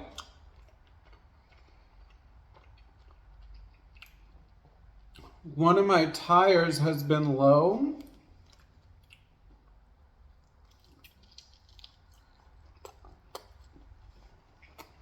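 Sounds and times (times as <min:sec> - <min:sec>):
chewing pizza: 0:00.0 - 0:05.5, 0:08.0 - 0:15.0.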